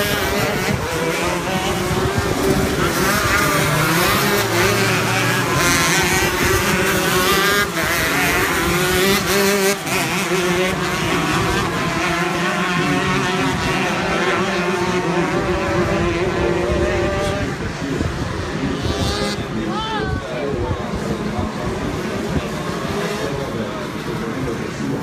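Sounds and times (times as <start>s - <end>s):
kart engines racing: 0.0s - 25.0s.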